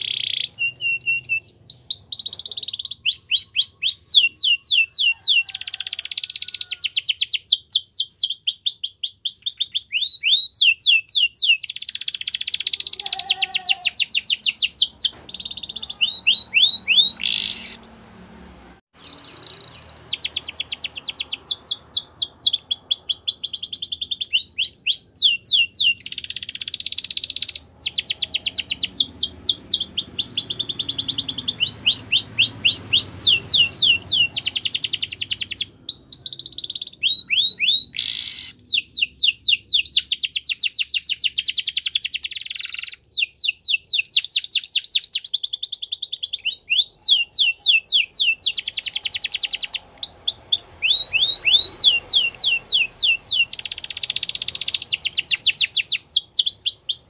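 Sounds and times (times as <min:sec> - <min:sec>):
canary singing fast trills: 0:00.0 - 0:57.0.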